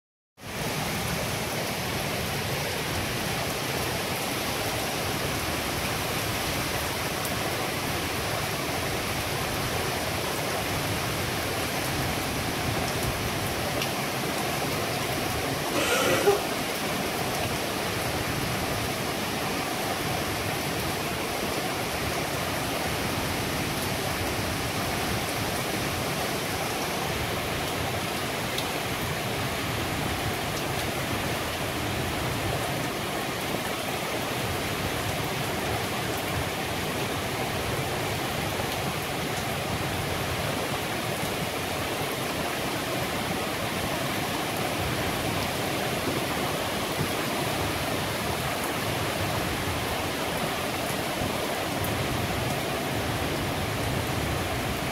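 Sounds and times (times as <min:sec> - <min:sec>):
heavy rain pouring: 0:00.4 - 0:54.9.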